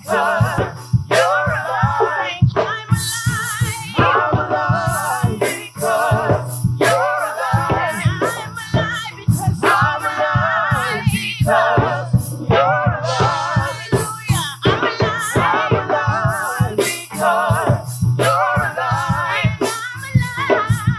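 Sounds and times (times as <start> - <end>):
band playing: 0.0 - 20.9
bass: 0.0 - 20.9
praise team singing: 0.0 - 20.9
steady drum beat: 0.0 - 20.9.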